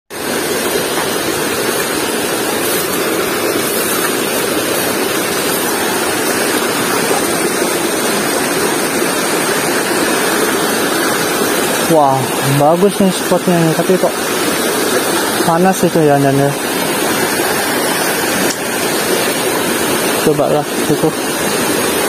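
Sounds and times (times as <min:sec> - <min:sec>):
river rushing over rocks: 0:00.2 - 0:22.0.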